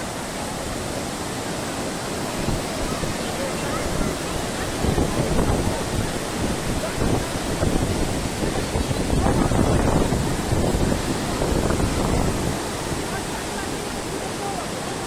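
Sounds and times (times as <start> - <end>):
wind buffeting microphone: 0.0 - 14.4
waterfall rushing: 0.0 - 15.0.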